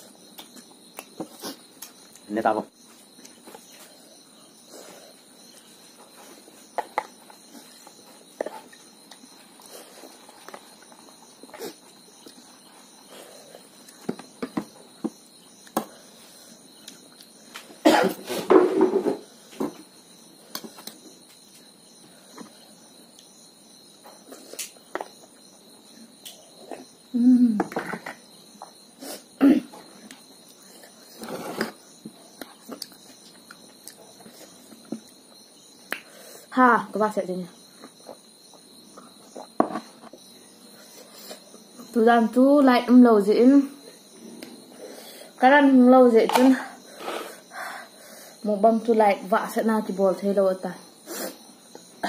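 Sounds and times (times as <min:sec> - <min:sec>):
crickets chirring: 0:00.0 - 0:52.0.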